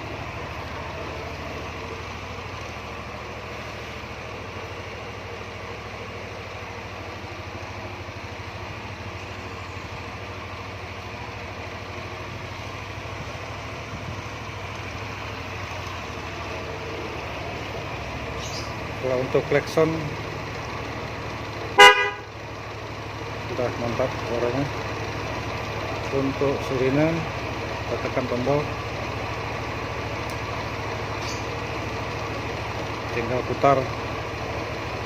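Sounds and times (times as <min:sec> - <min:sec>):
scooter engine idling: 0:00.0 - 0:35.0.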